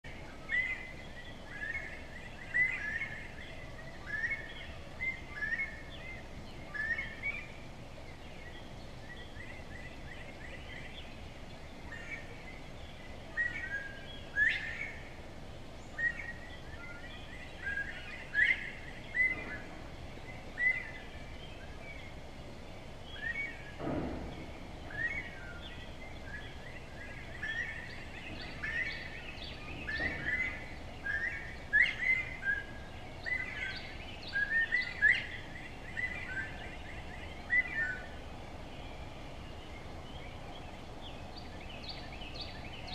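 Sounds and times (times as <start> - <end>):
steady background noise: 0.0 - 42.9
other birds calling: 0.1 - 42.9.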